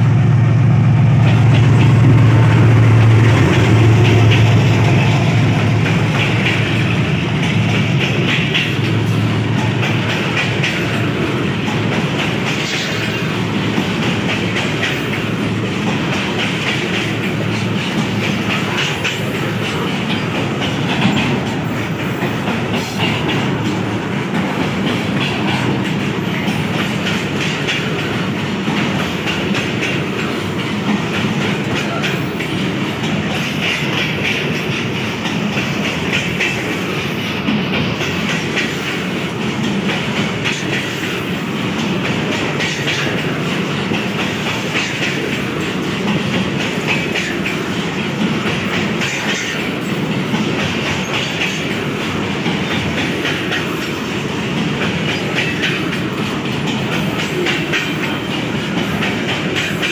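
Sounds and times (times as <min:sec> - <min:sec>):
train rolling rumble: 0:00.0 - 0:59.9
wheels clattering over rail joints: 0:01.2 - 0:59.9.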